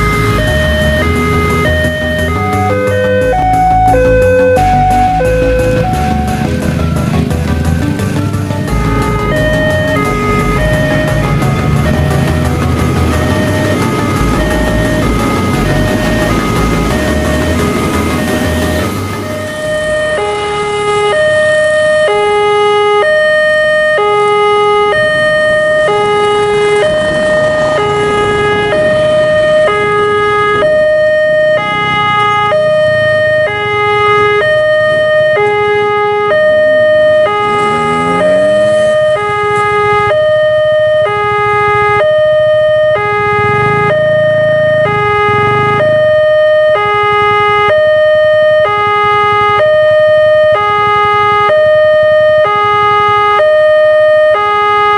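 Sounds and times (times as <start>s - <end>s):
level crossing two-tone alarm: 0.0s - 54.9s.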